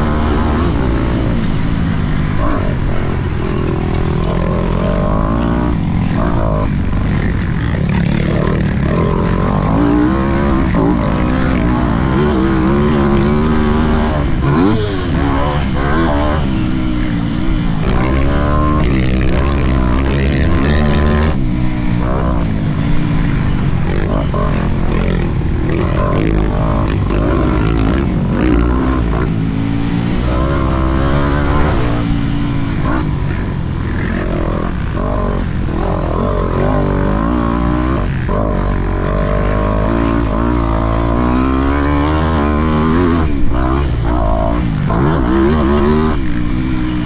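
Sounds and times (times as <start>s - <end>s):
motocross bike engine revving: 0.0s - 47.0s.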